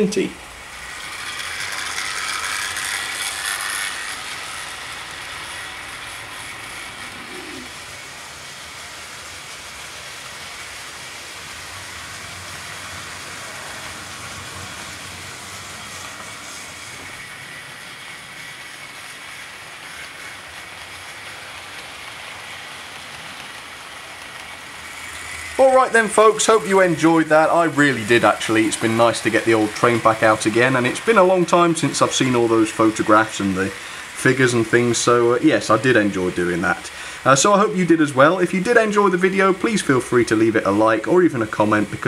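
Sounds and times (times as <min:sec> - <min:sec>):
model train running on track: 0:00.0 - 0:42.0.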